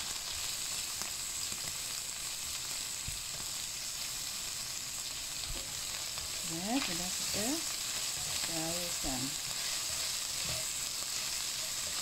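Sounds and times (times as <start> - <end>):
food sizzling in hot oil: 0.0 - 12.0
spatula stirring in wok: 0.0 - 12.0.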